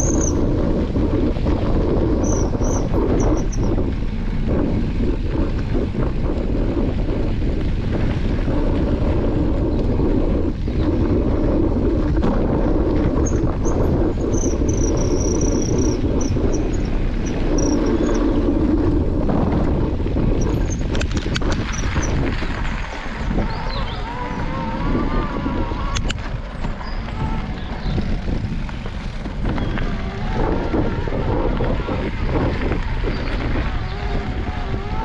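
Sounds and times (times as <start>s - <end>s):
wind buffeting microphone: 0.0s - 35.0s
tyres rolling over gravel: 3.4s - 35.0s.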